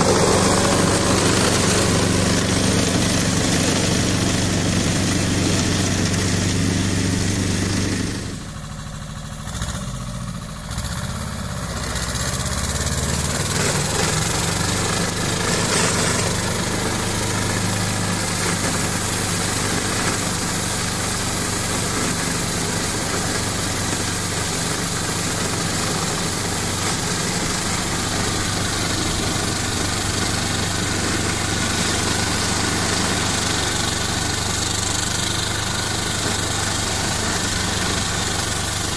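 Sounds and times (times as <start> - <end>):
brush-cutter cutting grass: 0.0 - 8.6, 10.6 - 38.9
tractor diesel engine running: 0.0 - 38.9.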